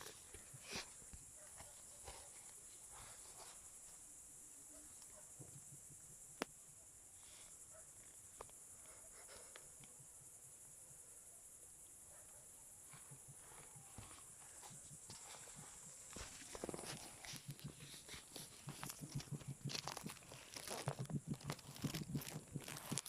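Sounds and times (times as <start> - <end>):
faint rustles and ticks: 0.0 - 11.0, 11.8 - 23.0.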